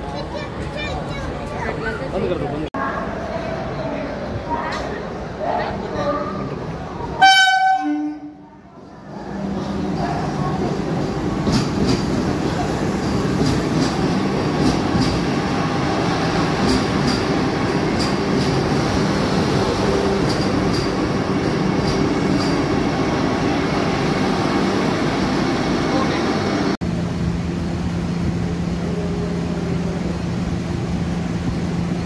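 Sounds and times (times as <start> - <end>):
electric train rumbling: 0.0 - 32.0.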